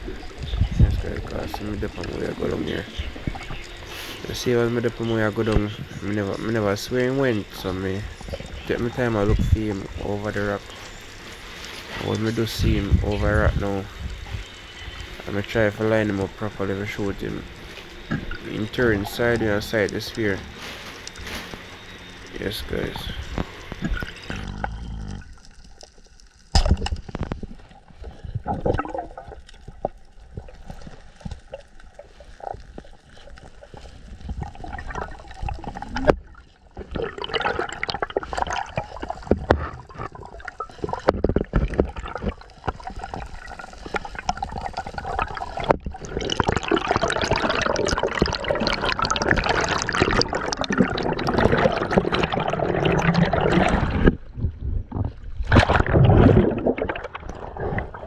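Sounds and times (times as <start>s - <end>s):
water sloshing and bubbling: 0.0s - 58.0s.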